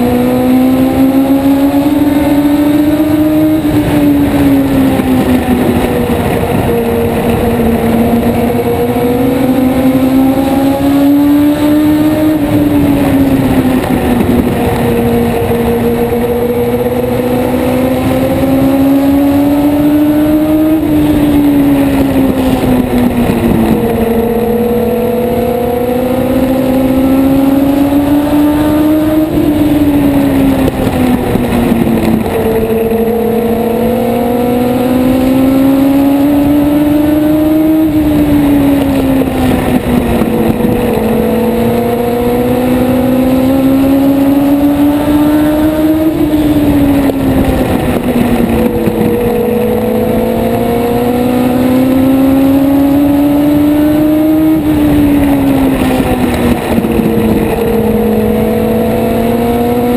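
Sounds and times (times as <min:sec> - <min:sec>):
race car engine: 0:00.0 - 0:59.9.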